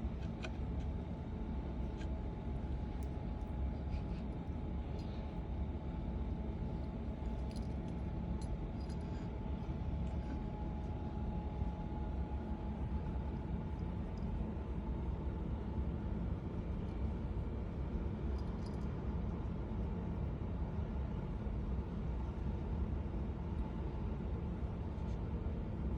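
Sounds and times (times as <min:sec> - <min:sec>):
faint hum: 0:00.0 - 0:25.9.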